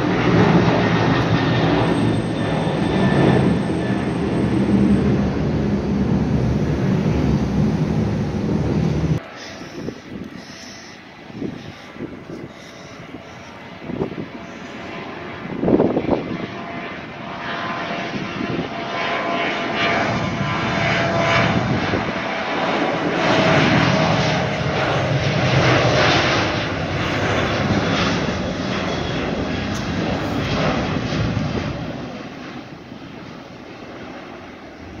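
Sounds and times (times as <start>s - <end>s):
faint jet whine: 0.0s - 35.0s
jet engines roaring on takeoff: 0.0s - 35.0s.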